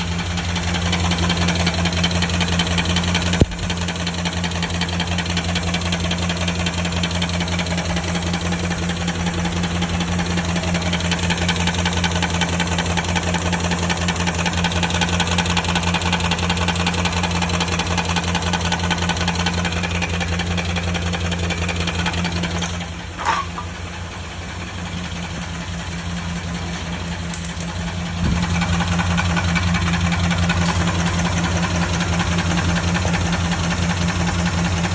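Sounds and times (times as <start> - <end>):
engine idling: 0.0 - 34.9
fast even engine tapping: 0.0 - 34.9.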